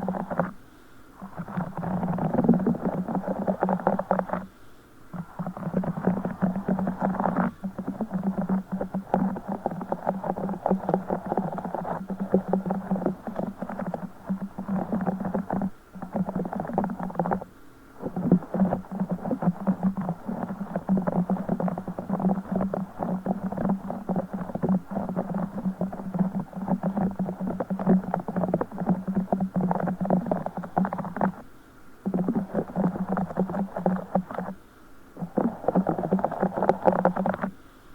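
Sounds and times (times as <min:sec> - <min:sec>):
stress ball squelching: 0:00.0 - 0:00.6, 0:01.2 - 0:04.5, 0:05.2 - 0:34.6, 0:35.2 - 0:37.6.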